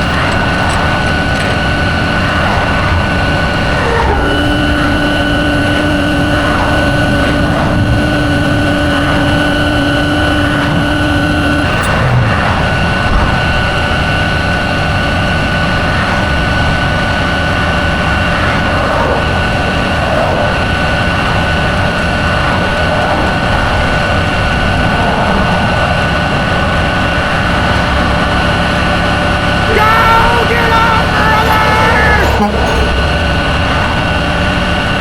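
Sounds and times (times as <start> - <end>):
high whine: 0.0 - 35.0
road or rain noise: 0.0 - 35.0
vehicle engine running: 0.0 - 35.0.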